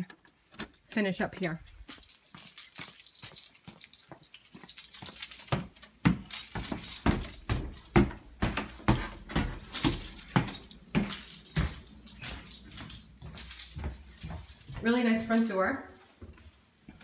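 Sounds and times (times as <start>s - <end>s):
footsteps climbing stairs: 0.0s - 17.0s
footsteps on tile floor: 1.4s - 17.0s.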